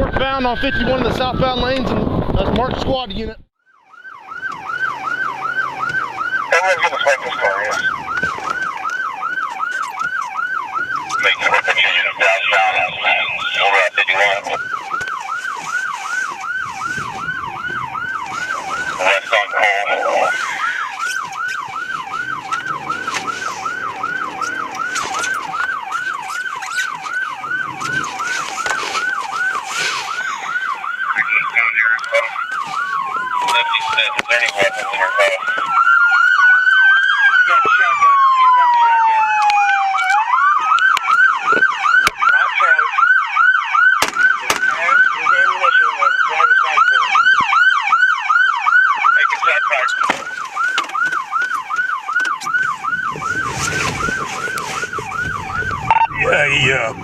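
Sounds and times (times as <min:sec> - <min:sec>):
police siren fast yelp: 0:00.0 - 0:02.5, 0:03.7 - 0:57.0
police siren slow wail: 0:00.0 - 0:02.7, 0:03.6 - 0:57.0.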